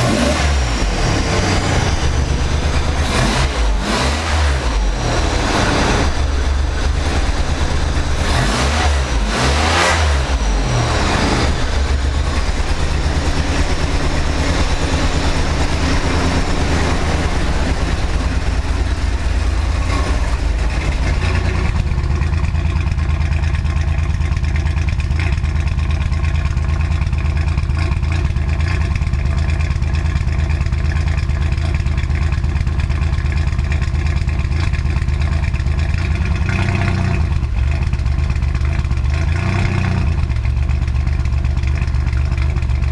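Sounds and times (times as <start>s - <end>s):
car engine idling rough: 0.0s - 42.9s.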